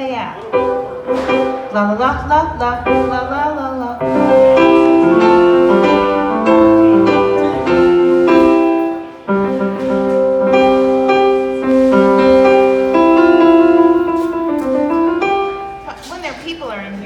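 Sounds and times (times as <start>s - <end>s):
piano chords on keyboard: 0.0s - 15.9s.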